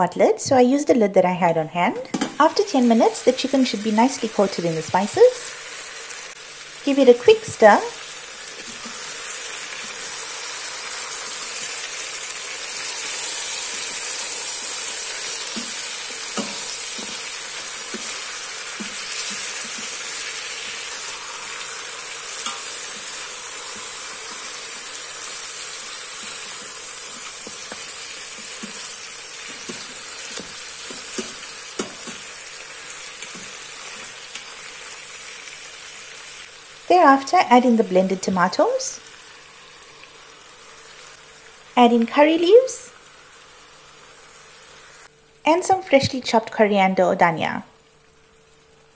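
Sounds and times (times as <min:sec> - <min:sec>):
chicken sizzling in pot: 0:02.4 - 0:46.6, 0:47.7 - 0:48.9.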